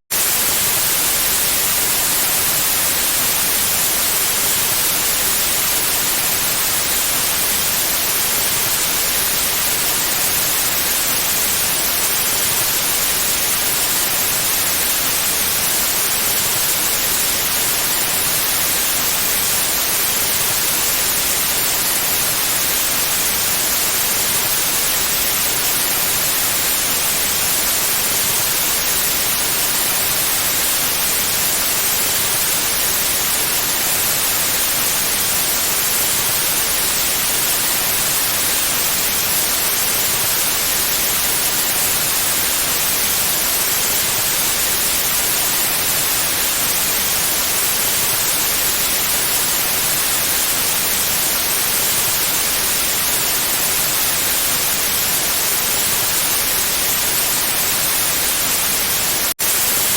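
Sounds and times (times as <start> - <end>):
white noise hiss: 0.1 - 59.9.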